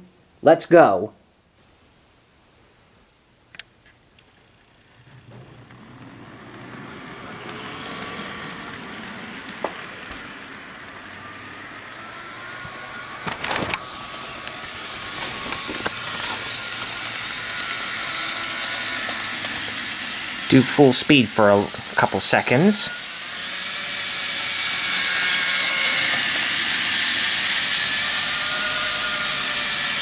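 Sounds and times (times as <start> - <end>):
model train running on track: 5.1 - 30.0.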